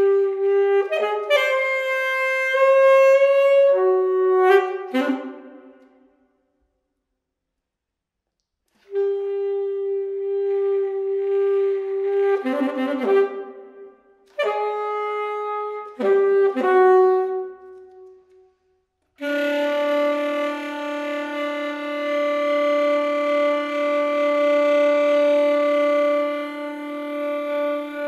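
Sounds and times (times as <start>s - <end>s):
alto saxophone playing: 0.0s - 5.9s, 8.7s - 18.6s, 19.2s - 28.0s.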